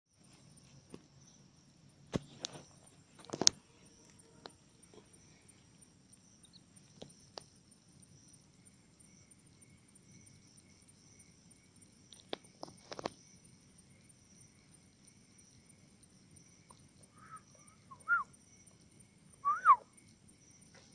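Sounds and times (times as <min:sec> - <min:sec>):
insect chirring: 0:00.1 - 0:20.9.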